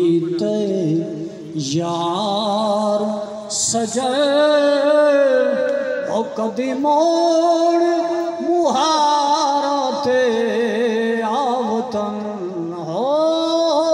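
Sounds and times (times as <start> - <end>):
man singing unaccompanied: 0.0 - 13.9.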